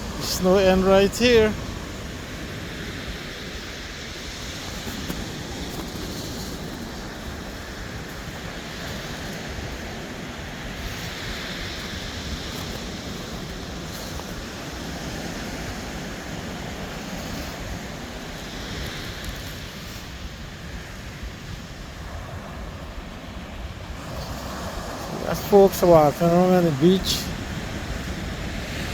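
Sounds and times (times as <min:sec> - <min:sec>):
surf washing onto sand: 0:00.0 - 0:28.9
wind rumbling on microphone: 0:00.0 - 0:28.9.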